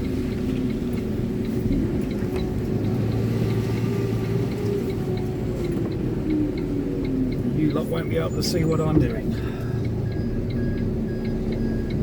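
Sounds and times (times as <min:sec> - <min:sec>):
diesel engine running at low speed: 0:00.0 - 0:12.0.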